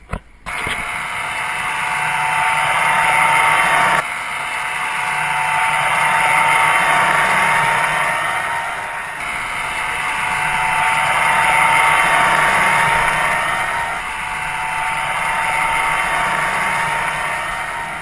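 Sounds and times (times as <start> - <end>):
outboard engine running: 0.0 - 18.0
wind: 0.0 - 18.0.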